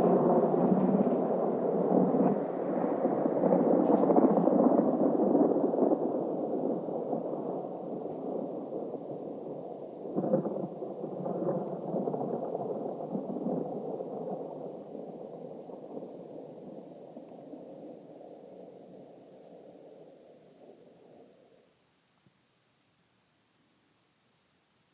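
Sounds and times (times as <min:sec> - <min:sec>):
thunder rumbling and cracking: 0:00.0 - 0:21.4.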